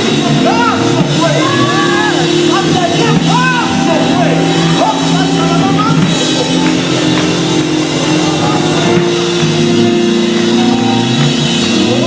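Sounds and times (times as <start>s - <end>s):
drum kit: 0.0s - 12.0s
keyboard chords: 0.0s - 12.0s.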